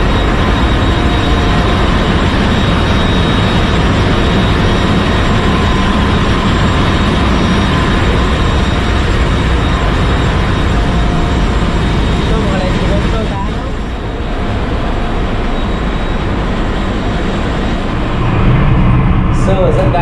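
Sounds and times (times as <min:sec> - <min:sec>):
faint steady tones: 0:00.0 - 0:20.0
ship machinery droning: 0:00.0 - 0:20.0.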